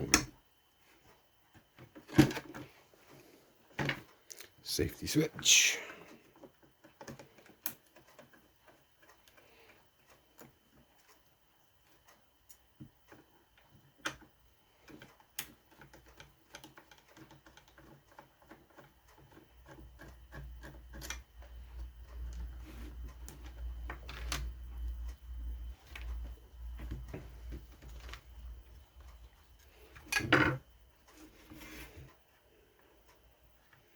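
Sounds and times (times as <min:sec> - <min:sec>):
small clicks and taps of parts: 0:06.0 - 0:33.9.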